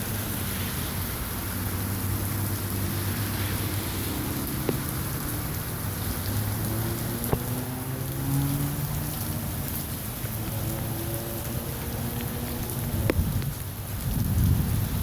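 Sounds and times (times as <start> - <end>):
rain and hail falling: 0.0 - 15.0.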